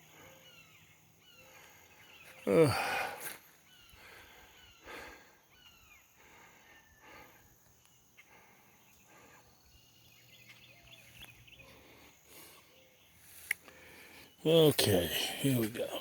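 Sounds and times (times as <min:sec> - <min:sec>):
faint bird chirps: 0:00.0 - 0:16.0
high insect hum: 0:00.0 - 0:16.0.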